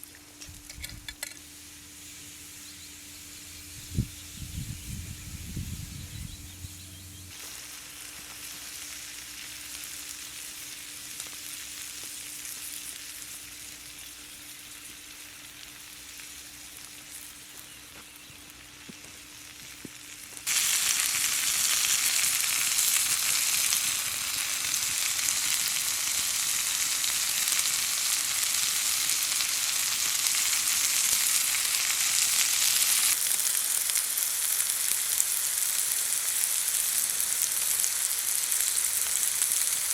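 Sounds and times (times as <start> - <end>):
food sizzling in hot oil: 0.6 - 39.9.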